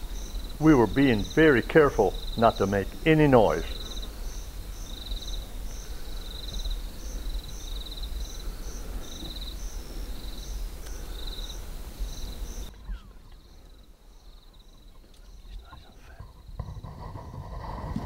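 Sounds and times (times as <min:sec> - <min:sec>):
insects chirping in trills: 0:00.0 - 0:17.8.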